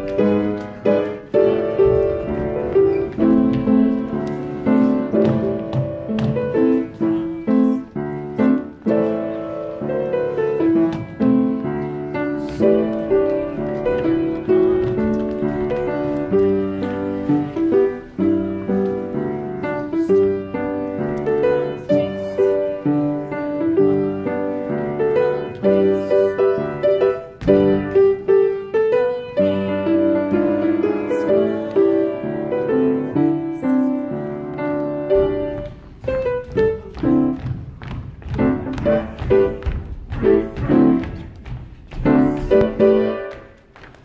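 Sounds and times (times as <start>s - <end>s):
piano playing show tune: 0.0s - 44.0s.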